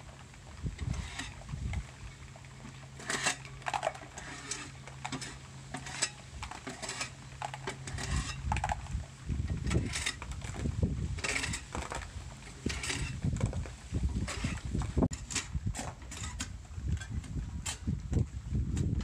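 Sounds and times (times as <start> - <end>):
scraper scraping barnacles off hull: 0.0 - 9.0, 9.6 - 19.0.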